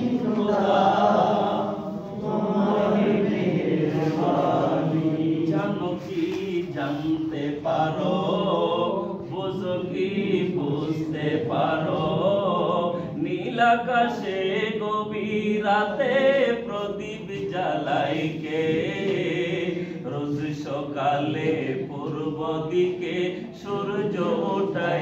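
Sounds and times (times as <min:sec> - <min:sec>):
group singing devotional song: 0:00.0 - 0:25.0.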